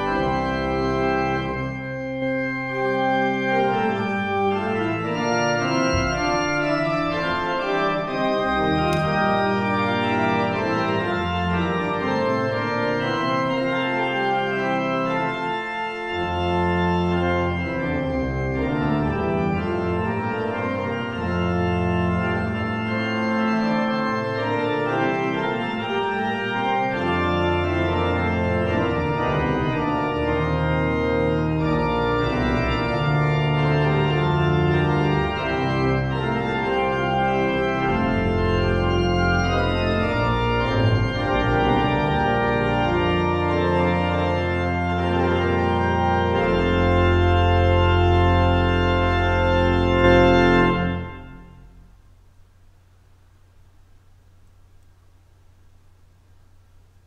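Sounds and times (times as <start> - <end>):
deep organ pedal notes: 0.0 - 52.2
church pipe organ chords: 0.0 - 52.4.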